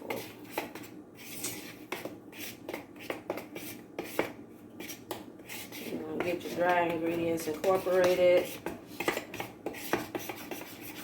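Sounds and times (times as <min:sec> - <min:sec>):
fork scraping mixing bowl: 0:00.0 - 0:11.0.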